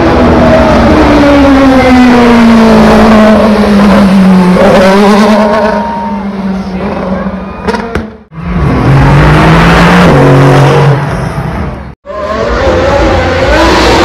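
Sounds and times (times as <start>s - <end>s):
racing car engine at high revs: 0.0s - 14.0s.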